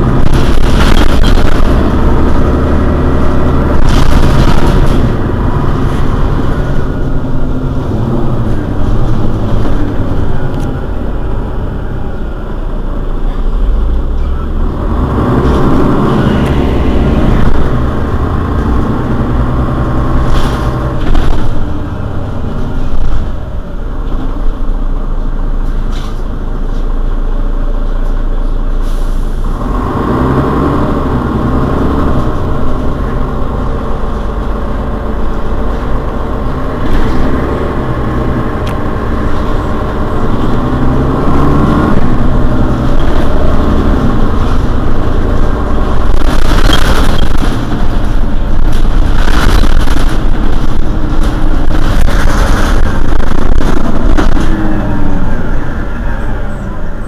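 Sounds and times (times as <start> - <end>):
bus engine idling: 0.0 - 57.0
rushing noise: 0.0 - 57.0.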